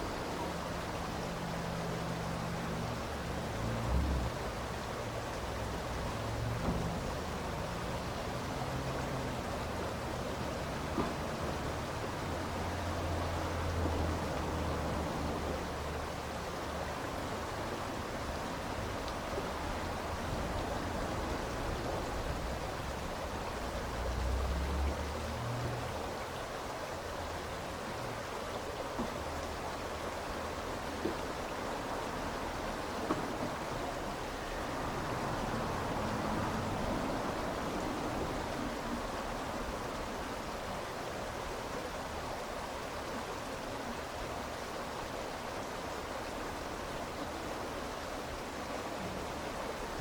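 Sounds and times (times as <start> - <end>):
river water flowing: 0.0 - 50.0.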